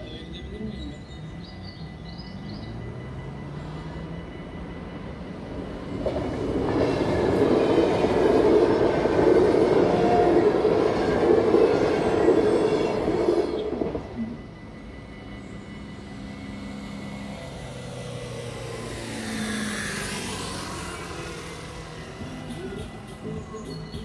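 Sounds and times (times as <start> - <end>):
electric train rumbling past: 0.0 - 24.0.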